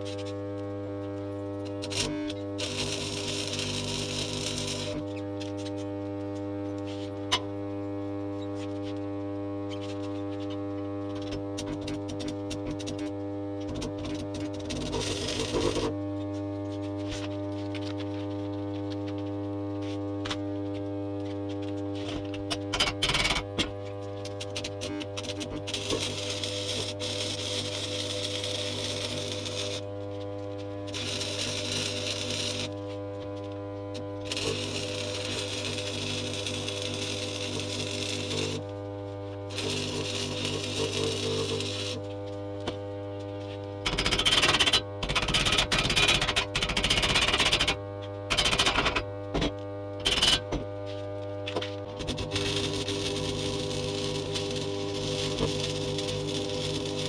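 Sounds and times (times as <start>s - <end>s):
welder transformer humming: 0.0s - 57.0s
welding arc crackling: 0.0s - 57.0s.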